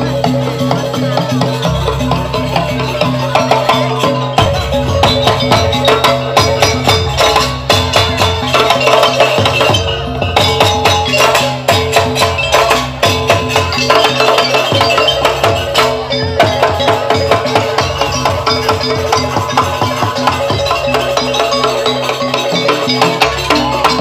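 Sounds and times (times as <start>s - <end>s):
struck percussion and drum: 0.0s - 24.0s.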